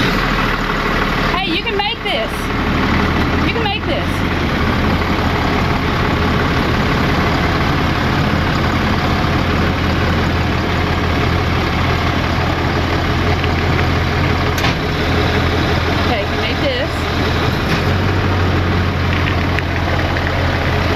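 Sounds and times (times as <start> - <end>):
truck engine running at low revs: 0.0 - 20.9.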